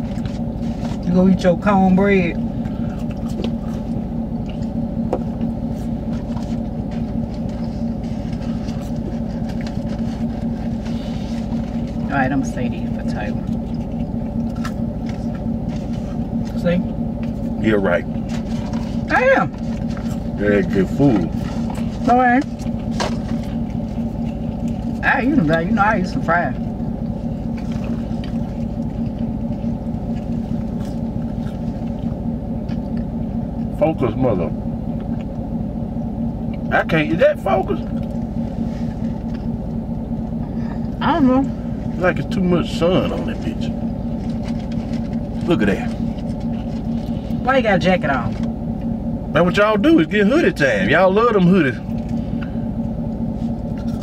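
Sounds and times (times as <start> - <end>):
parked truck engine humming: 0.0 - 54.0
vehicle idling from inside: 0.0 - 54.0.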